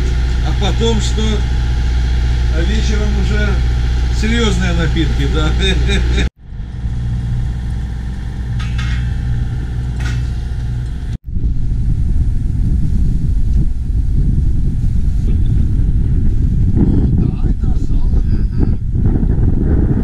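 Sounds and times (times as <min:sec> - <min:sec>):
boat engine droning: 0:00.0 - 0:17.1.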